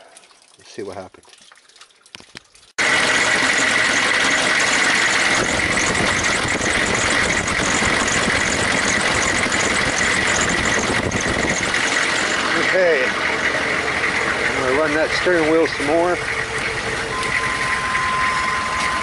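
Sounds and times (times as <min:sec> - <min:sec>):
diesel engine idling: 0:02.8 - 0:19.0
high whine: 0:02.8 - 0:19.0.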